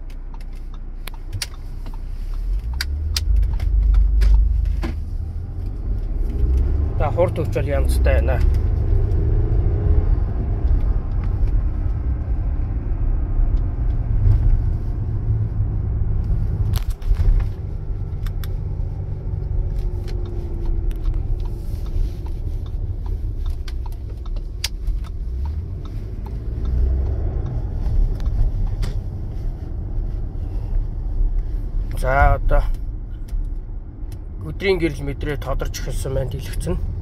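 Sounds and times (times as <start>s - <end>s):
car cabin road rumble: 0.0s - 37.0s.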